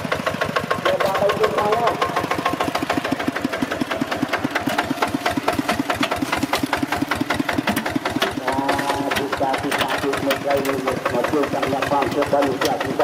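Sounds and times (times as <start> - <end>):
diesel tractor engine knocking: 0.0 - 13.0.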